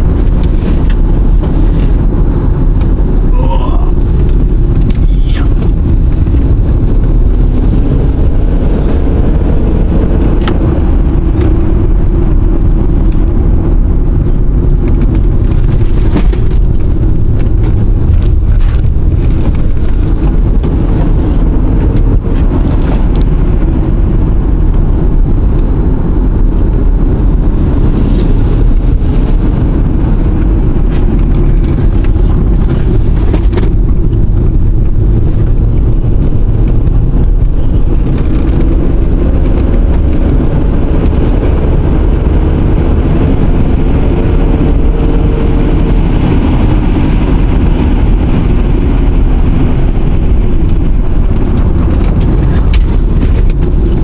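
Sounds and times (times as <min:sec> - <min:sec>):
faint engine hum: 0:00.0 - 0:54.0
road noise inside moving car: 0:00.0 - 0:54.0.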